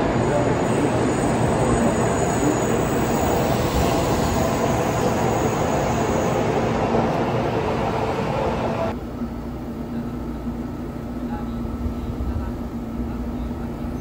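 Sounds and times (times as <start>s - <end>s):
train wheel and running noise: 0.0s - 14.0s.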